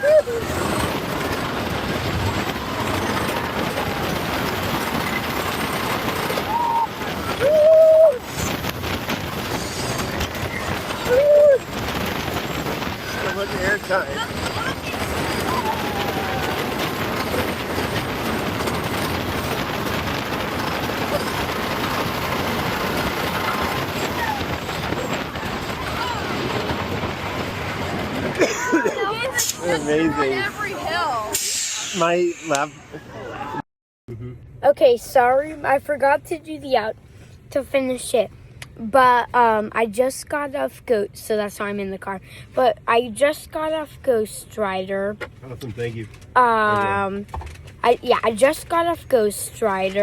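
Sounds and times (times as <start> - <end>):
roller coaster wheels rumbling: 0.0 - 50.0.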